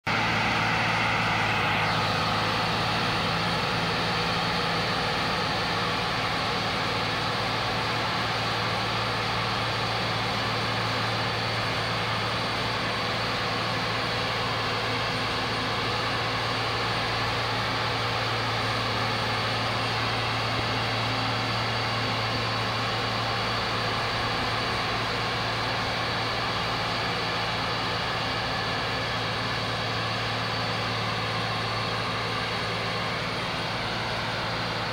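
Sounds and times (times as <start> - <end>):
tractor engine drone: 0.0 - 34.9.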